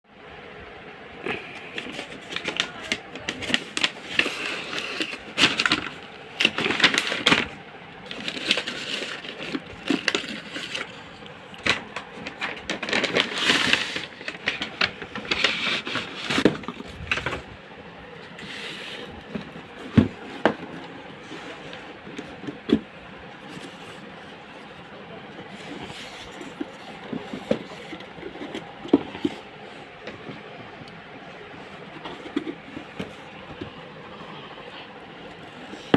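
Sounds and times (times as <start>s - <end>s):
packaging rustling and crinkling: 1.3s - 35.9s.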